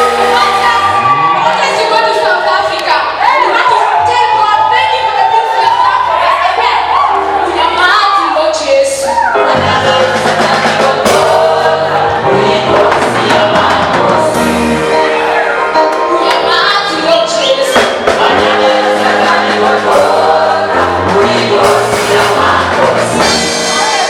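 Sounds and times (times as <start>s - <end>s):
choir singing gospel: 0.0s - 24.0s
instrumental accompaniment with bass: 0.0s - 24.0s.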